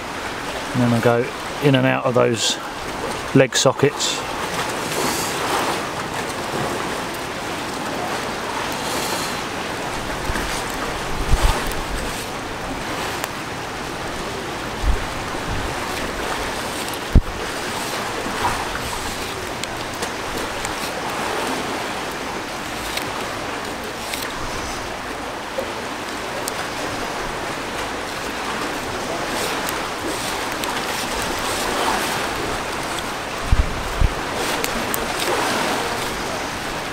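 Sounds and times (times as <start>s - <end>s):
sea waves: 0.0s - 36.9s
wind: 0.0s - 36.9s.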